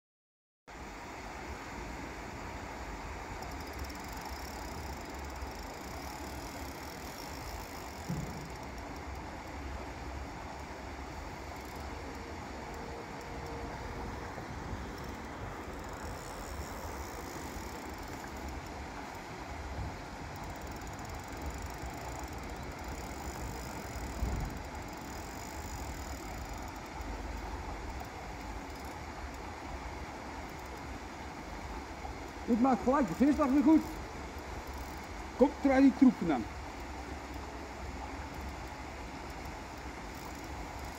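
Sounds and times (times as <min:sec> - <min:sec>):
even hiss: 0:00.7 - 0:40.9
faint fast ticking: 0:03.2 - 0:40.9
spinning reel being wound: 0:03.3 - 0:09.8, 0:10.5 - 0:13.8, 0:14.8 - 0:19.3, 0:20.2 - 0:30.9, 0:32.5 - 0:40.9.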